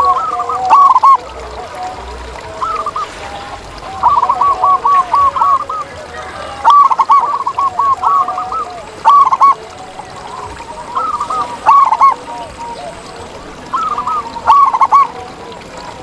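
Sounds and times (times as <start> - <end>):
dove calling in clipped notes: 0.0 - 16.0
dove cooing: 0.0 - 16.0.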